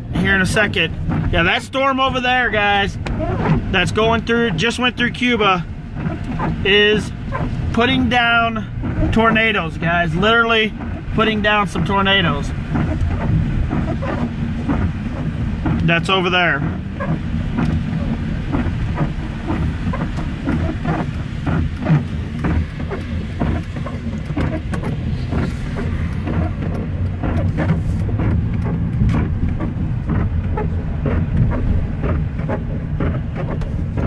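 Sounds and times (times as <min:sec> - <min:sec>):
car engine and tyre rumble: 0:00.0 - 0:34.0
rain ticking on windshield: 0:00.0 - 0:34.0.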